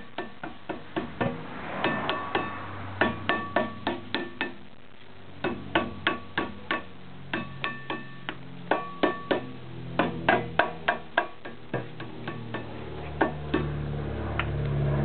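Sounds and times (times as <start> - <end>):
rubber mallet striking metal rotor: 0.0 - 4.7, 5.4 - 13.8.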